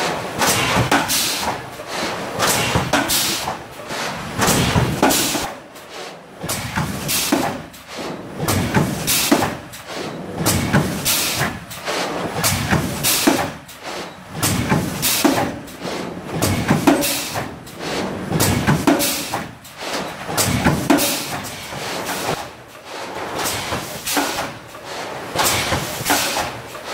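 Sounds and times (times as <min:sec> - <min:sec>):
pneumatic cylinders hissing: 0:00.4 - 0:26.9.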